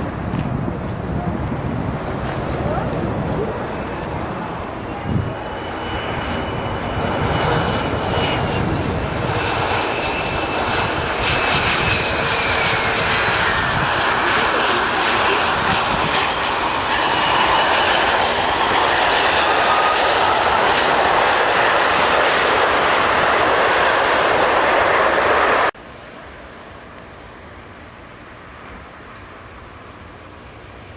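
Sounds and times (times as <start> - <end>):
airliner engines passing low: 0.0 - 30.9.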